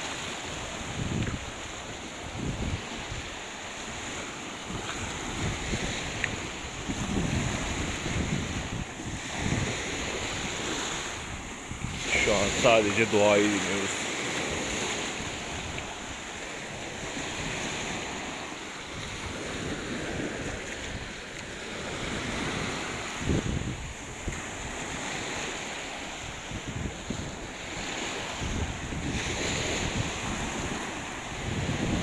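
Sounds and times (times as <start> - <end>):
sea waves washing on shore: 0.0 - 32.0
wind buffeting microphone: 0.0 - 32.0.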